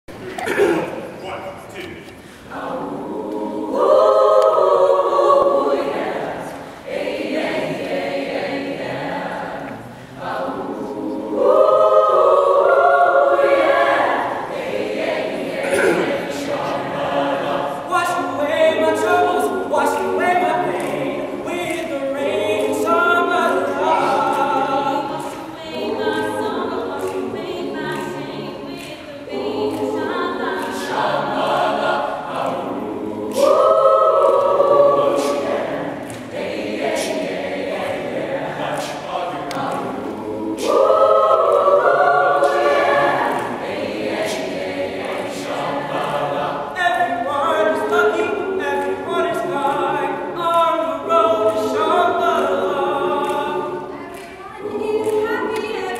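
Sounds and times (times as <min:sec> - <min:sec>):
mixed choir singing a cappella: 0:00.3 - 0:55.9.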